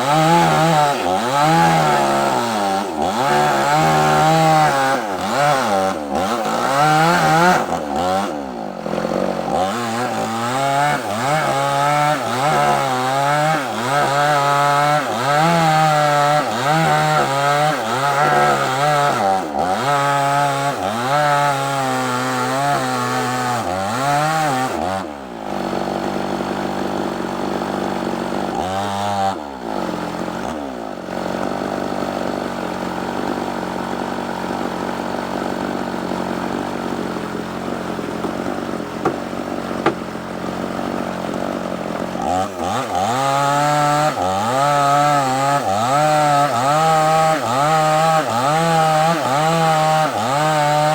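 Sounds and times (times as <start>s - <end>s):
chainsaw cutting log: 0.0s - 50.9s
chainsaw idling: 0.0s - 50.9s.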